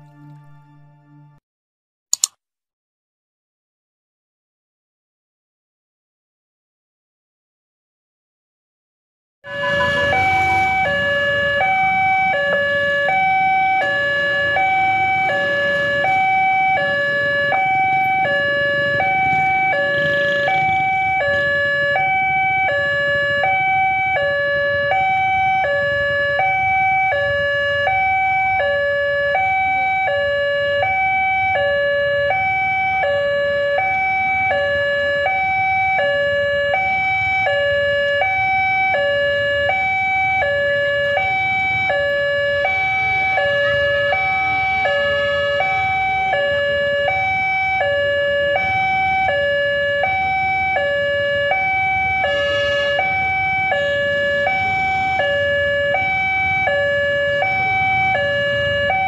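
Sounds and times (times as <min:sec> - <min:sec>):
two-tone electronic crossing alarm: 0:09.4 - 0:59.0.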